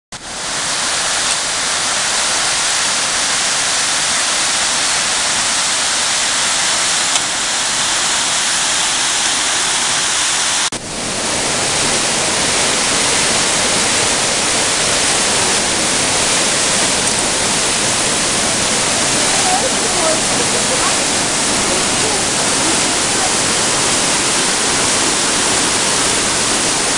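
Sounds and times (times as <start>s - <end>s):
roar of rushing stream water: 0.1s - 26.9s.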